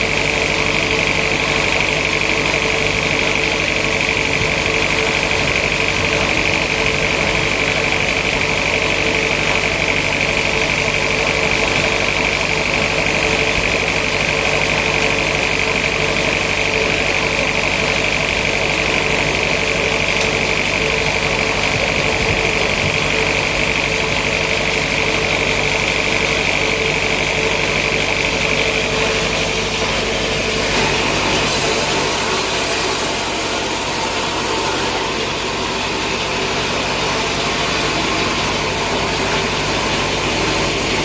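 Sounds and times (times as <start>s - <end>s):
machinery low hum: 0.0s - 41.0s
saw high whine: 0.0s - 41.0s.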